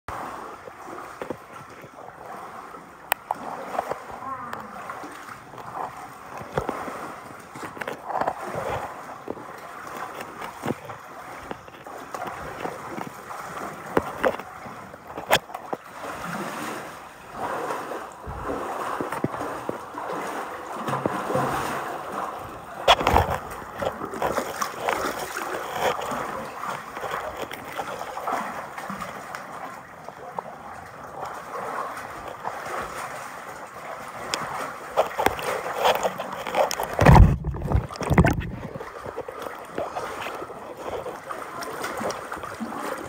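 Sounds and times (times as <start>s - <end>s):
water sloshing and splashing: 0.1s - 43.0s.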